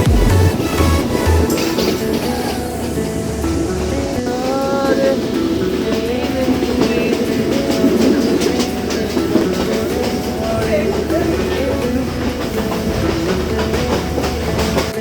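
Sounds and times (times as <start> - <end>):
music with stepping melody: 0.0 - 15.0
train rumbling: 0.0 - 15.0
wheel clatter on rails: 0.0 - 15.0.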